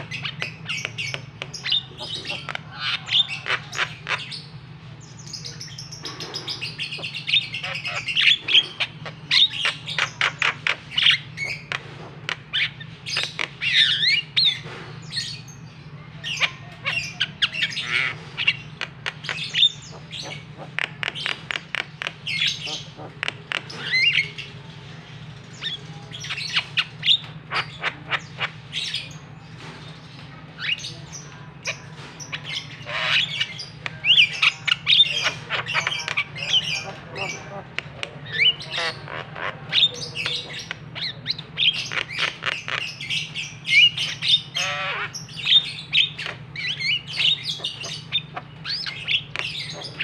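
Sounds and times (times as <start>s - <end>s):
bird singing varied song: 0.0s - 50.0s.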